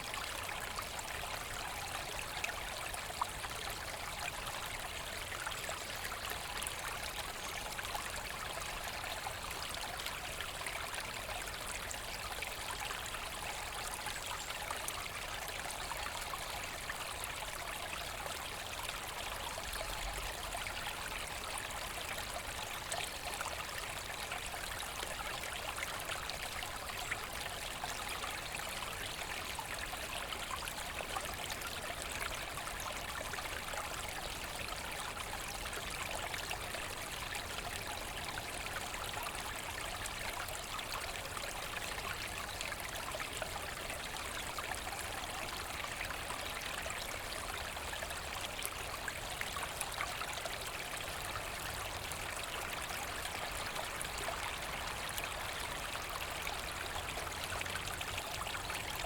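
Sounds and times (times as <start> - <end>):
brook flowing and splashing: 0.0 - 59.0.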